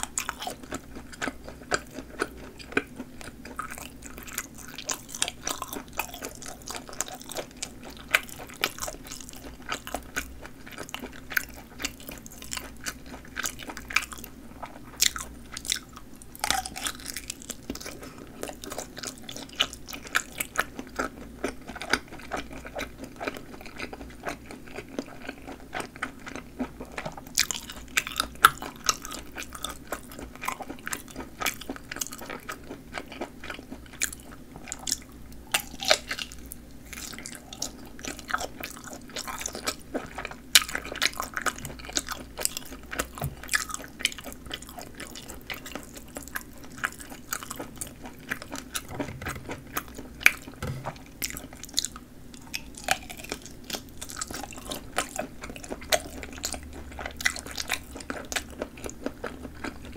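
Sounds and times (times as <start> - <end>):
person chewing sausage: 0.0 - 59.9.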